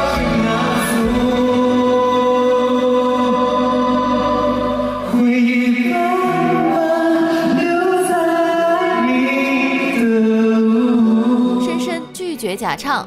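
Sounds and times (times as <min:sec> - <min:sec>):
man singing a slow ballad: 0:00.0 - 0:11.6.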